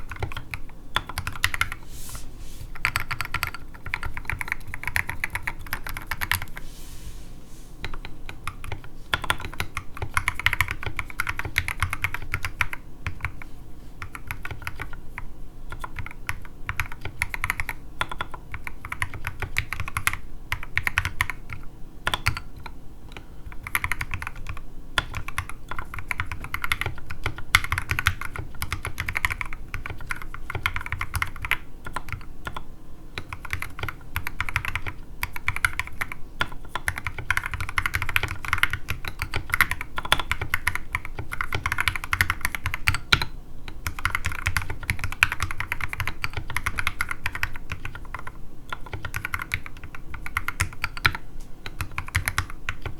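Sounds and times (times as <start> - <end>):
mechanical keyboard typing on desk: 0.0 - 1.8, 2.8 - 6.6, 7.8 - 13.4, 14.0 - 15.0, 15.7 - 22.7, 23.5 - 32.6, 33.2 - 52.9.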